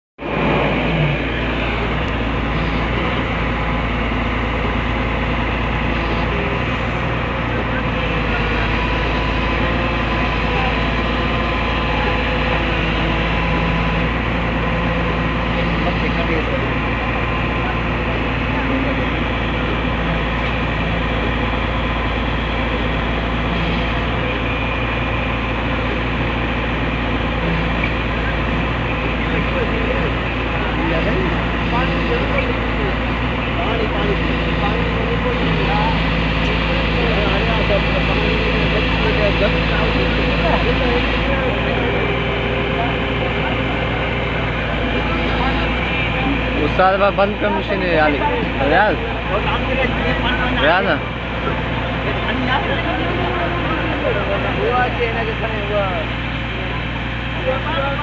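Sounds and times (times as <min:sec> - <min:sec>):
excavator diesel engine running: 0:00.2 - 0:58.0.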